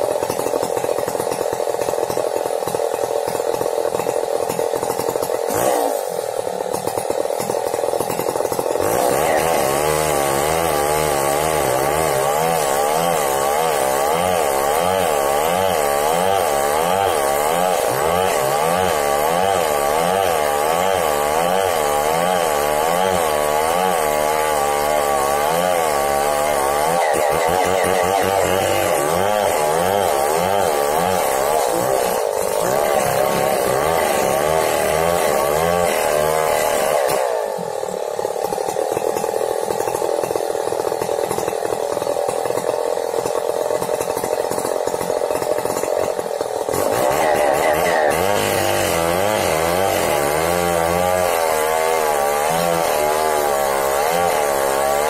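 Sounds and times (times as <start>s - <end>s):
chainsaw cutting tree: 0.0s - 55.0s.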